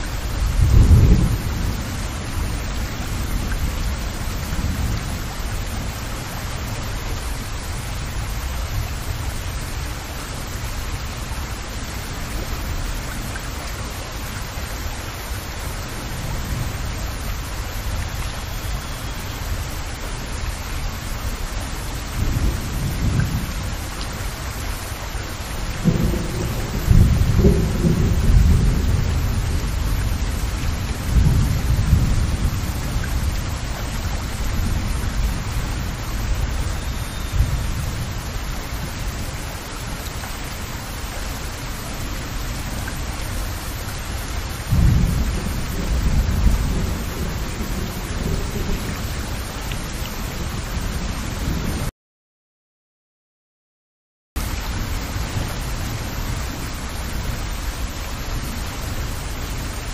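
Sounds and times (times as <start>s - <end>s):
heavy rain on water: 0.0s - 51.9s, 54.4s - 59.9s.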